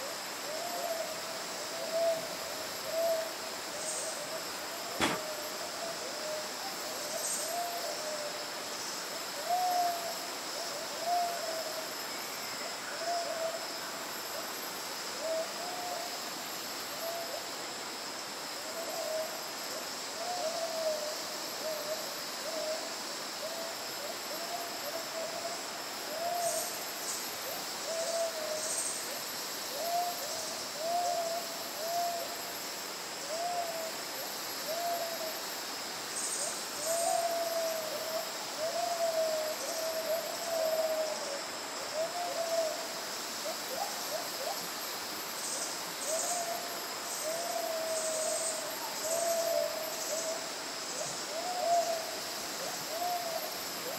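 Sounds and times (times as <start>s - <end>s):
high insect drone: 0.0s - 53.9s.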